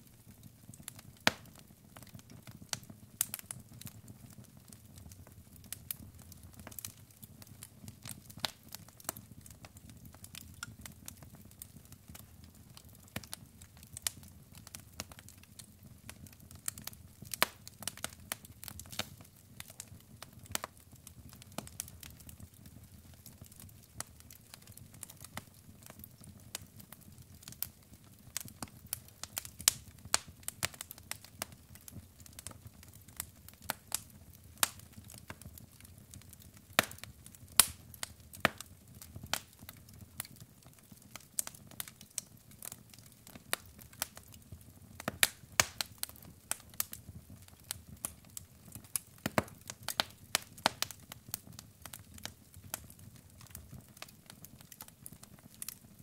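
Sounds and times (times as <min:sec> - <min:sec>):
logs crackling in fireplace: 0:00.0 - 0:56.0.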